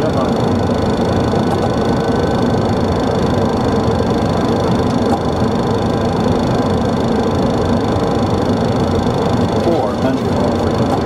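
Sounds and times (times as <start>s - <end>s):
airplane cabin engine drone: 0.0s - 11.0s
high whine: 0.0s - 11.0s.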